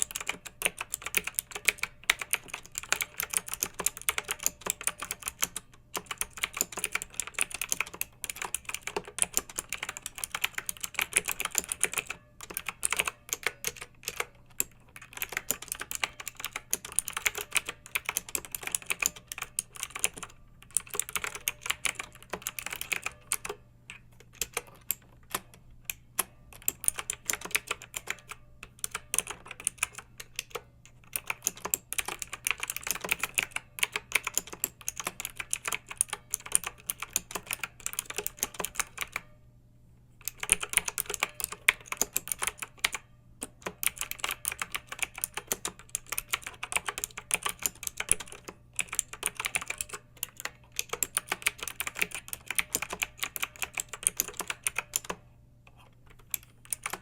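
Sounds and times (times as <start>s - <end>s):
mechanical keyboard typing clicks: 0.0s - 39.4s, 40.2s - 57.0s.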